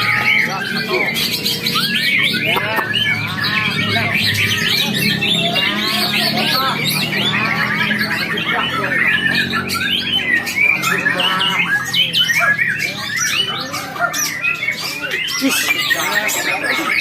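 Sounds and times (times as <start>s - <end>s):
bird singing whistles and chatter: 0.0s - 17.0s.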